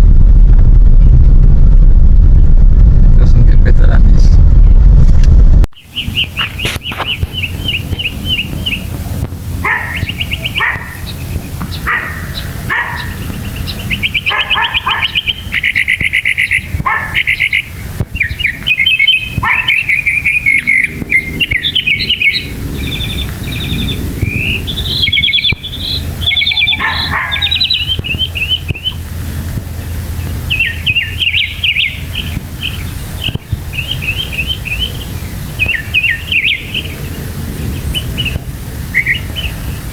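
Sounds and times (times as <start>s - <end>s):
low background hum: 0.0s - 39.9s
mockingbird singing: 5.8s - 39.9s.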